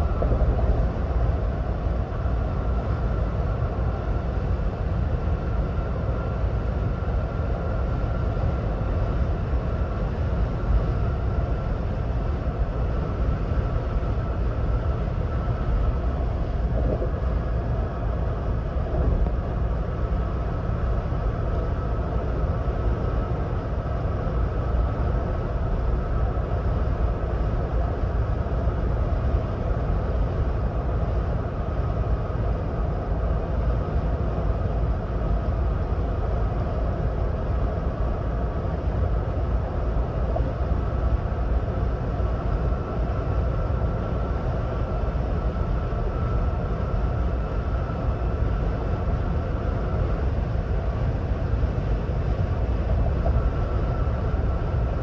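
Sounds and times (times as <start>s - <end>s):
faint steady whine: 0.0s - 55.0s.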